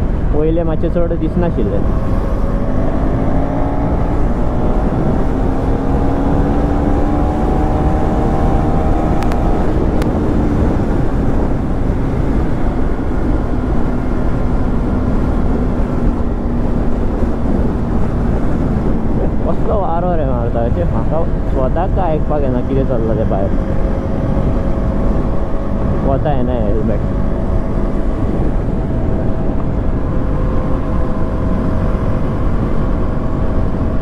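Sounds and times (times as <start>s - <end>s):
wind rush: 0.0s - 34.0s
motorcycle engine accelerating: 1.7s - 34.0s.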